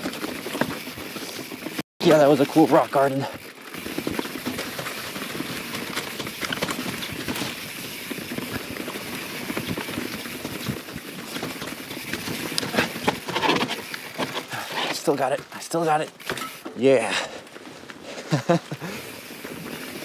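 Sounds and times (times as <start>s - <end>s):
bike clattering and rattling: 0.0s - 20.0s
bike tyres rolling on trail: 0.0s - 20.0s.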